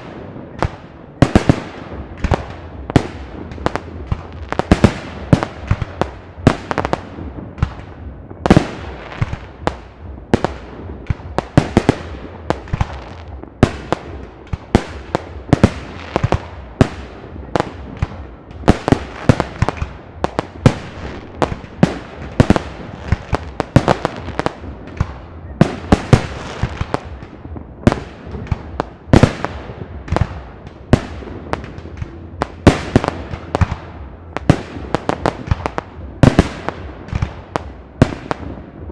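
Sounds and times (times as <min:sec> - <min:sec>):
fireworks bangs echoing: 0:00.0 - 0:38.9
steady low rumble: 0:00.0 - 0:38.9.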